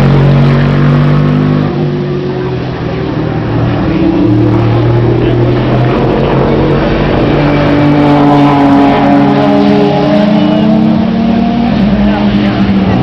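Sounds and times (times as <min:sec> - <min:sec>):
racing car engine at high revs: 0:00.0 - 0:13.0.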